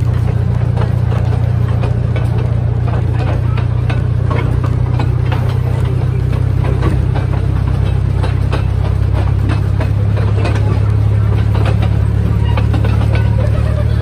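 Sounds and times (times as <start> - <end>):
carriage clicking on track: 0.0 - 14.0
locomotive engine droning: 0.0 - 14.0.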